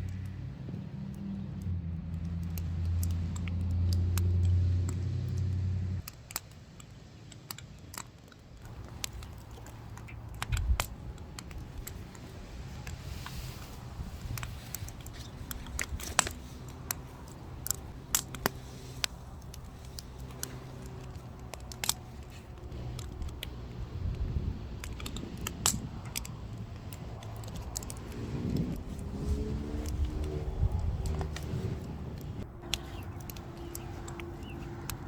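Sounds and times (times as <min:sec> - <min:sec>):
firewood crackling and popping: 0:00.0 - 0:35.0.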